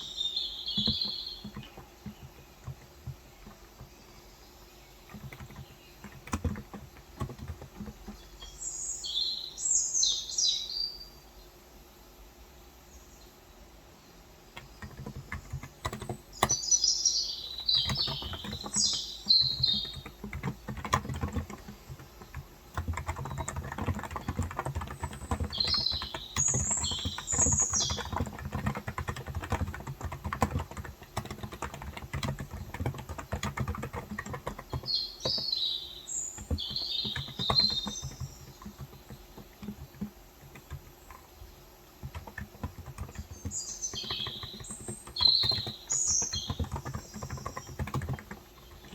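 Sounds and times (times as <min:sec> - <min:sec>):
keyboard typing: 0:00.0 - 0:04.2, 0:04.9 - 0:08.6, 0:14.5 - 0:48.9
bird chirping: 0:00.0 - 0:11.5, 0:14.6 - 0:48.9.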